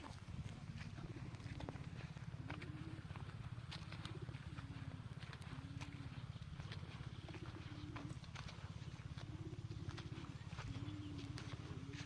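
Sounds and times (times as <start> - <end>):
pigeons cooing: 0.0 - 12.0
steady low rumble: 0.0 - 12.0.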